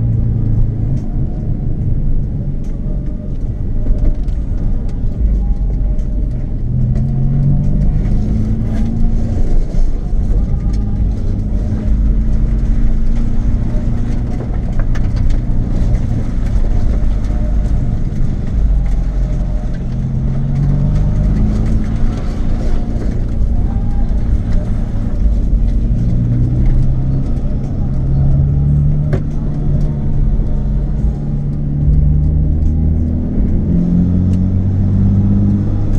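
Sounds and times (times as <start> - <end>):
car engine droning: 0.0 - 35.9
low road rumble: 0.0 - 35.9.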